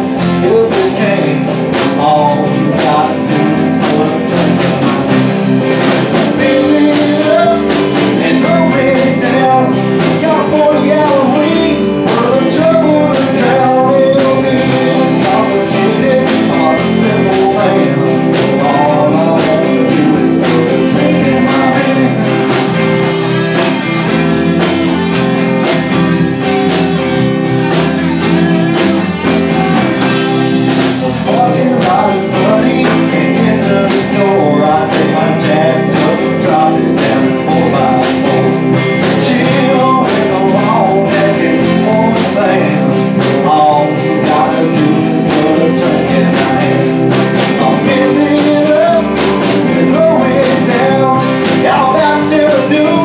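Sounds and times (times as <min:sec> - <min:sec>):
person singing: 0:00.0 - 0:27.7, 0:29.1 - 0:53.0
guitar: 0:00.0 - 0:53.0
steady drum beat: 0:00.0 - 0:53.0.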